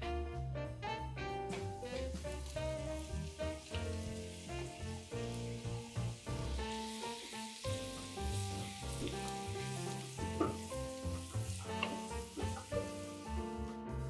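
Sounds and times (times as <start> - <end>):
onion sizzling in frying pan: 1.3 - 14.0.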